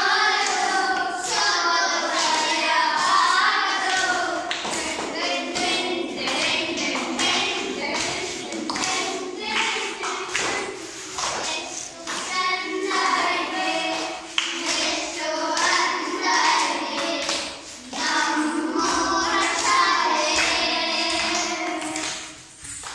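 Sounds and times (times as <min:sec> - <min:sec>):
children singing: 0:00.0 - 0:22.9
hand claps: 0:00.0 - 0:22.9.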